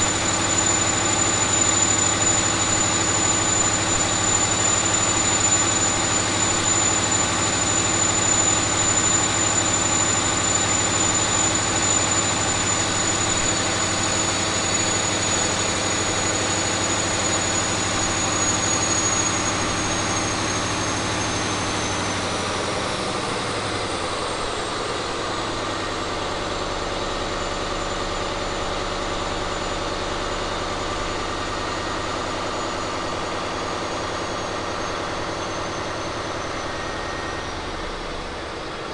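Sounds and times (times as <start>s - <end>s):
diesel engine running: 0.0s - 38.9s
high turbocharger whine: 0.0s - 38.9s.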